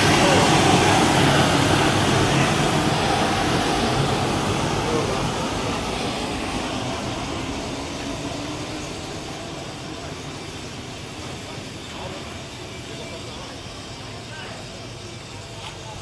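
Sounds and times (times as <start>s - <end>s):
gas venting with loud hiss: 0.0s - 16.0s.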